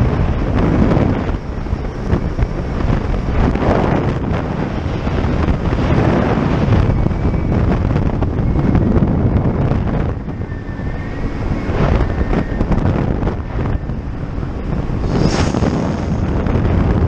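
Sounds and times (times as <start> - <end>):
engine drone: 0.0 - 17.0
wind buffeting microphone: 0.0 - 17.0.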